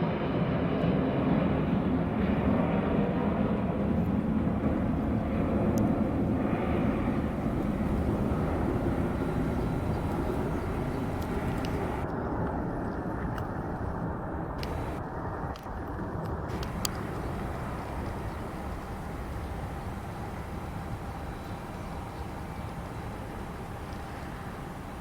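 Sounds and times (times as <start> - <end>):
jet engine rumble: 0.2 - 12.1, 14.0 - 15.0, 16.5 - 25.0.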